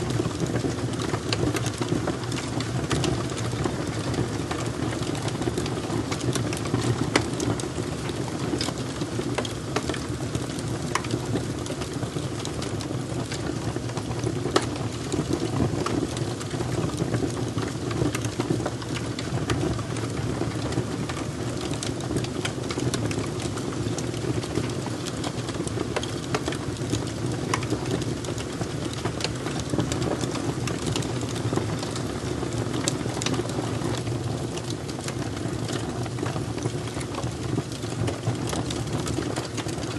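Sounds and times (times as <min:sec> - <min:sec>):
fire crackling and popping: 0:00.0 - 0:39.9
low rushing of burning fire: 0:00.0 - 0:39.9.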